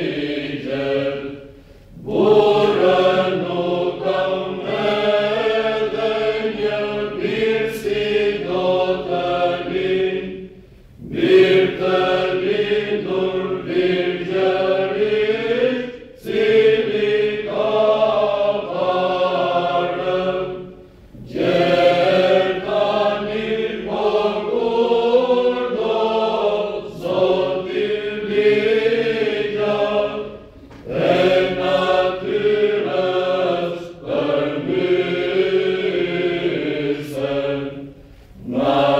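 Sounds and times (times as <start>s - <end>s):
mixed choir singing a cappella: 0.0s - 38.9s.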